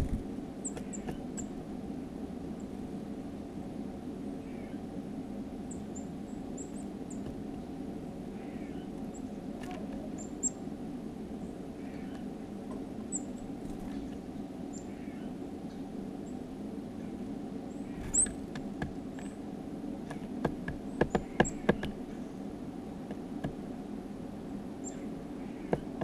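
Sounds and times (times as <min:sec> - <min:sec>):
low background hum: 0:00.0 - 0:26.0
songbirds chirping: 0:00.0 - 0:26.0.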